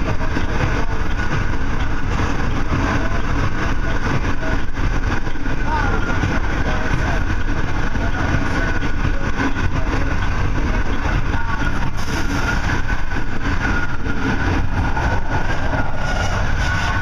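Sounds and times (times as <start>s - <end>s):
thin steady whine: 0.0s - 17.0s
train wheels rumbling on rail: 0.0s - 17.0s.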